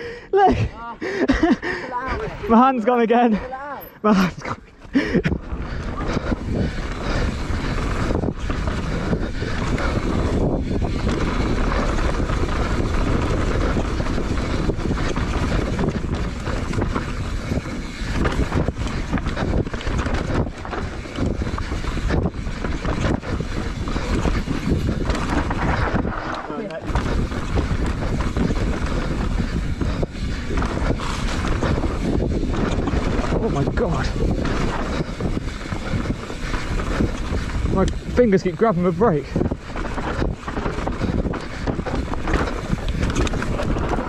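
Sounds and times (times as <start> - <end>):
bike tyres rattling on rough ground: 1.0 - 44.0
wind rushing on microphone: 4.2 - 44.0.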